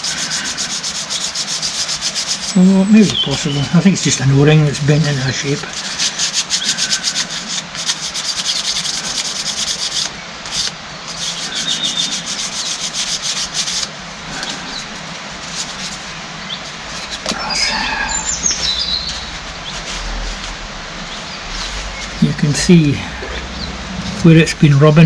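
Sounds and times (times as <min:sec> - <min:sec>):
sandpaper scraping on metal: 0:00.0 - 0:22.6.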